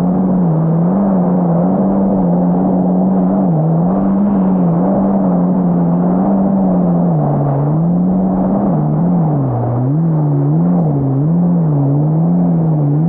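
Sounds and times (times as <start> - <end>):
jet ski engine running hard: 0.0 - 13.0
steady rushing noise: 0.0 - 13.0.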